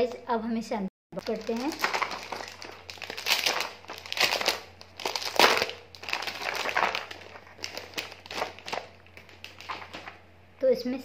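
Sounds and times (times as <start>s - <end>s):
plastic packaging crinkling: 1.2s - 10.2s.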